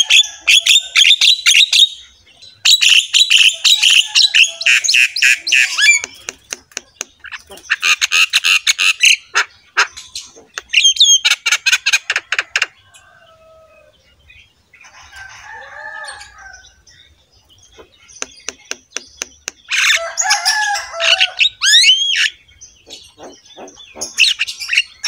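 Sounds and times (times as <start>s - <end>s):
fainter lower bird calls: 0.0s - 25.0s.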